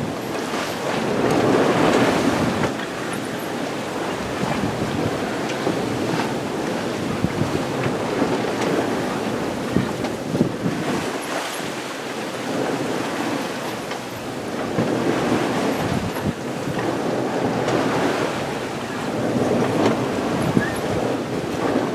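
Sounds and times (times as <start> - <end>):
wind buffeting microphone: 0.0 - 13.7, 14.3 - 21.9
sea water rushing past hull: 0.0 - 21.9.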